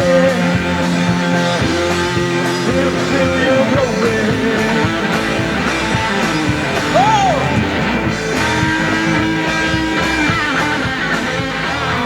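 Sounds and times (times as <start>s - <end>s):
band playing worship song: 0.0s - 12.0s
sliding guitar phrase: 0.0s - 12.0s.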